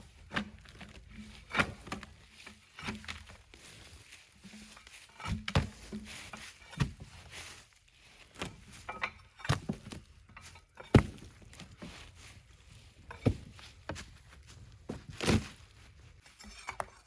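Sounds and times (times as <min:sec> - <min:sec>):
hand tool knocking and scraping bark: 0:00.0 - 0:15.6.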